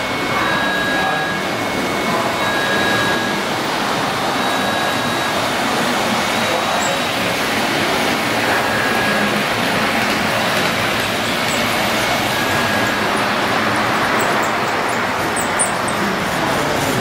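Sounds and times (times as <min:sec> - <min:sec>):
model trains rolling on track: 0:00.0 - 0:17.0.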